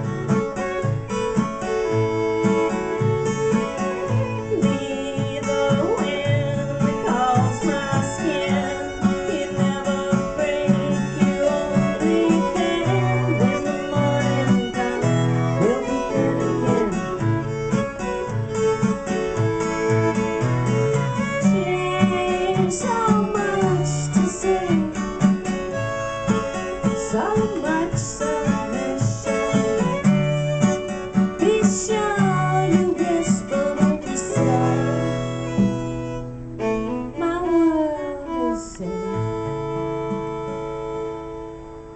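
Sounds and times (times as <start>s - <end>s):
acoustic guitar strumming: 0.0s - 41.9s
fiddle sliding melody: 0.0s - 41.9s.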